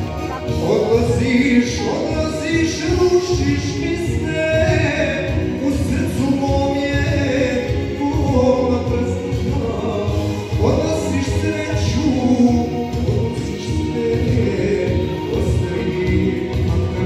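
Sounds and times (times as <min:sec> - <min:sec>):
backing track with steady beat: 0:00.0 - 0:17.0
man singing into a microphone: 0:00.0 - 0:17.0.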